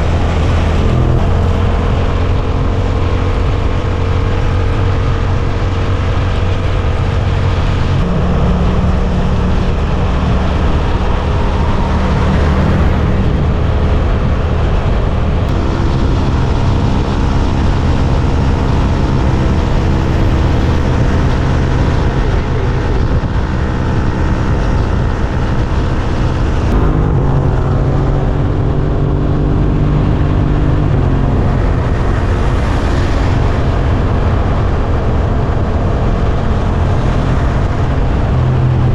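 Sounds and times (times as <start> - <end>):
motorcycle engine running: 0.0 - 38.9
wind rush: 0.0 - 38.9.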